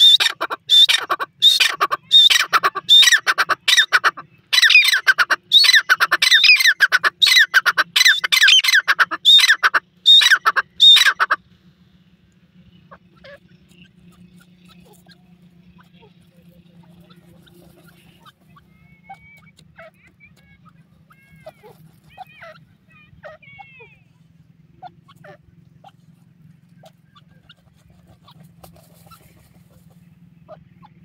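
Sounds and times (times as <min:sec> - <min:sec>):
francolin calling: 0:00.0 - 0:11.4, 0:12.7 - 0:31.0.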